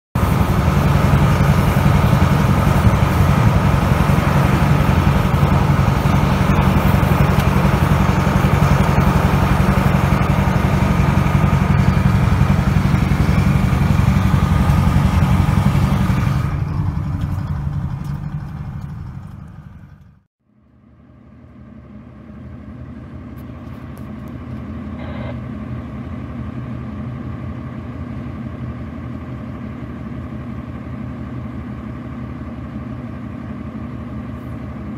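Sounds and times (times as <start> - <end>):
heavy truck engine running: 0.2 - 34.9
quieter truck engine running: 0.2 - 34.9.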